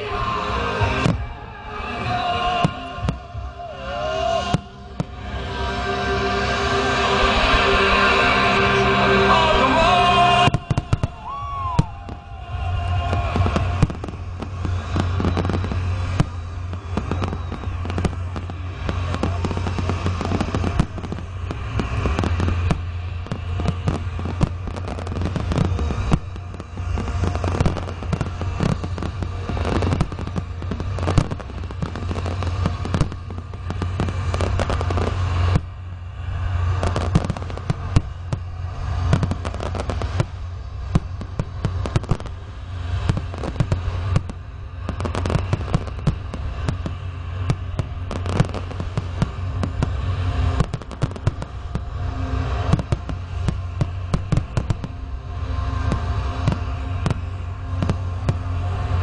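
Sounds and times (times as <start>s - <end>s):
fireworks bangs and crackles: 0.0s - 59.0s
low rumble: 0.0s - 59.0s.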